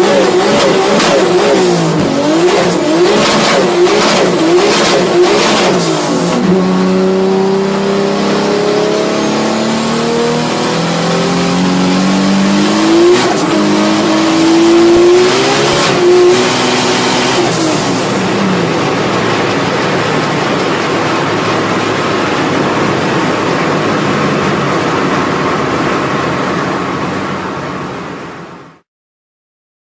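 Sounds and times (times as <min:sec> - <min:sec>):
turbocharged car engine accelerating: 0:00.0 - 0:28.5.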